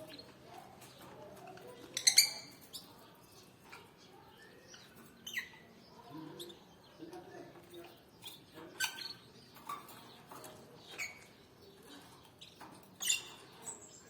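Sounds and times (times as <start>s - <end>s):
canaries chirping: 0.0s - 14.0s.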